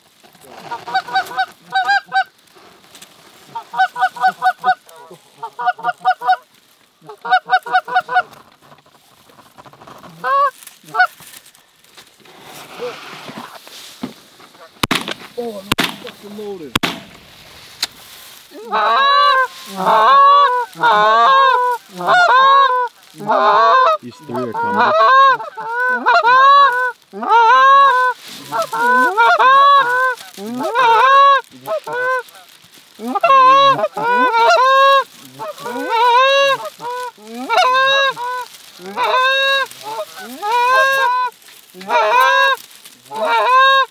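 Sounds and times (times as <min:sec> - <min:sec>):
geese honking: 0:00.5 - 0:02.4, 0:03.4 - 0:11.6, 0:14.4 - 0:16.9, 0:17.9 - 0:43.9.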